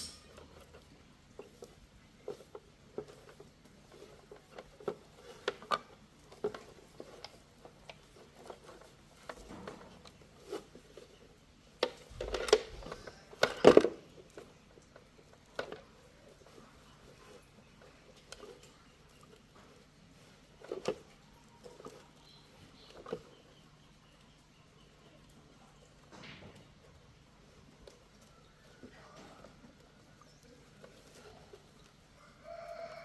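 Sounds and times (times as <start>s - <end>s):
clatter of objects: 0.0s - 32.1s
small objects clicking and knocking: 0.0s - 32.8s.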